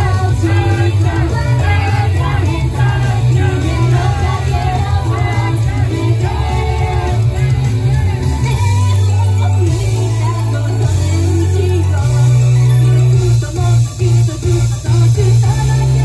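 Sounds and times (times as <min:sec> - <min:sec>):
women singing: 0:00.0 - 0:13.9
loud pop music with heavy bass: 0:00.0 - 0:16.0.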